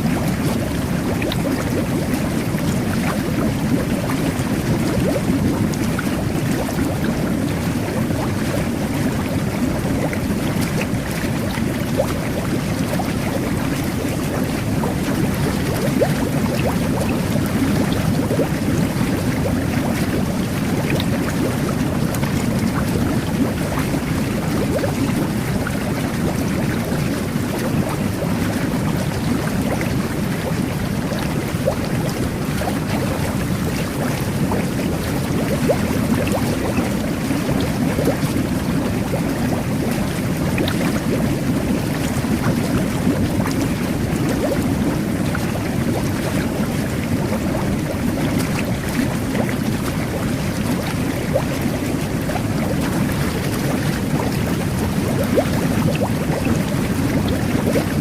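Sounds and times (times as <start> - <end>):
bubbles popping: 0.0 - 58.0
bubbling water rush: 0.0 - 58.0.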